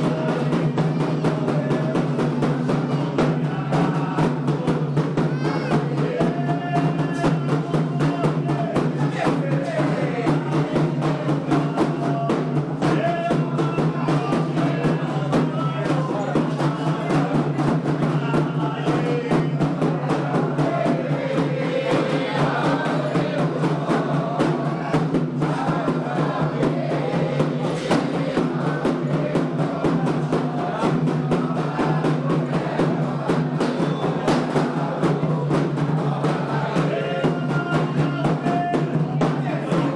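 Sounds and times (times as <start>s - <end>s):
hand drums playing: 0.0s - 39.9s
voices singing: 0.0s - 39.9s.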